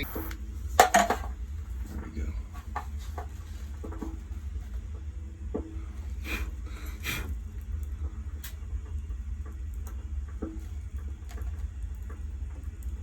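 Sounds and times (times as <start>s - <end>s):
gas burner rumble: 0.0s - 13.0s.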